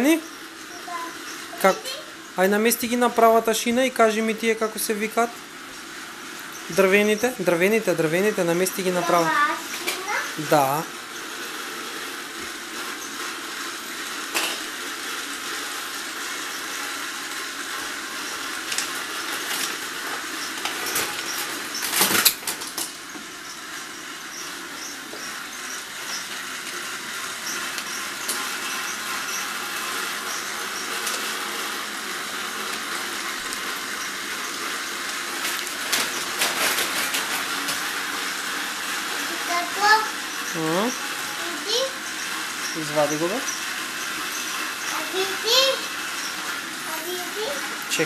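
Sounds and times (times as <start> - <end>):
toy train motor whirring: 0.0 - 48.0
toy train wheels rattling: 0.0 - 48.0.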